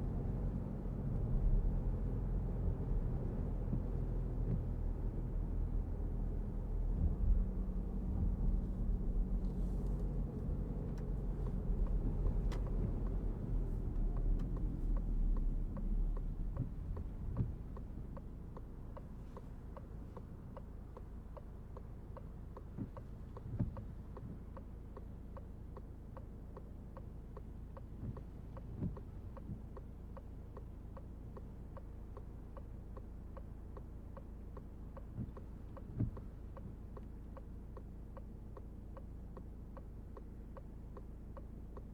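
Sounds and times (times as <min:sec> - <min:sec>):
road and engine rumble: 0:00.0 - 0:41.9
turn signal clicking: 0:02.6 - 0:05.1, 0:06.6 - 0:41.9.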